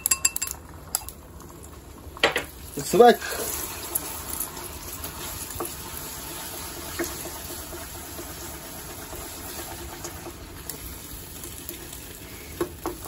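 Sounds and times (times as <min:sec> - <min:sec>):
eggs sizzling in a frying pan: 0:00.0 - 0:13.0.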